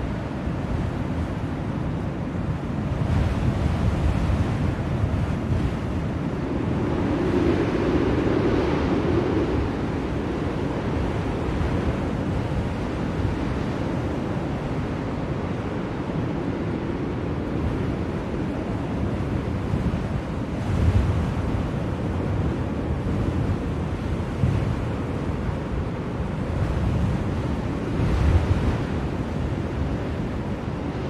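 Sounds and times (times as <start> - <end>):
blizzard wind rushing: 0.0 - 31.0.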